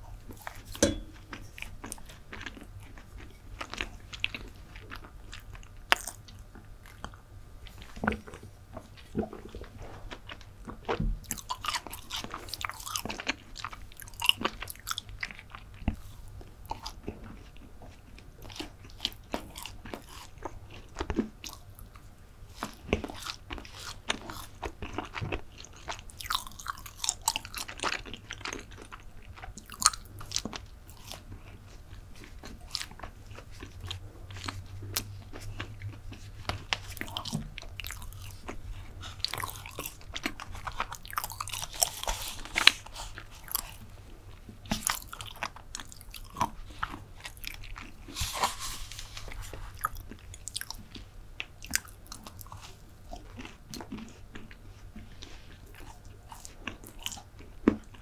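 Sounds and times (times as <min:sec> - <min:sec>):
chewing and biting food: 0:00.0 - 0:58.0.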